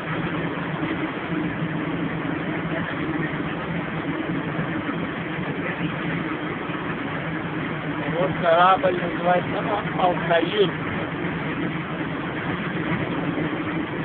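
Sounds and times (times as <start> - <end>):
boat diesel engine humming: 0.0 - 14.0
water churning along hull: 0.0 - 14.0.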